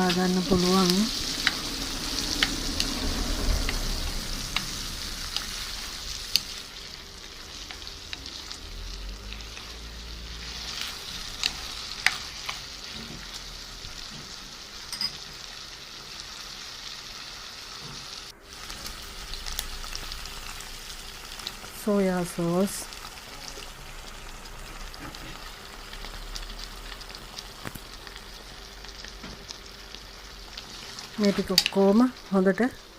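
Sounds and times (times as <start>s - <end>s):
vegetables sizzling in oil: 0.0s - 32.9s.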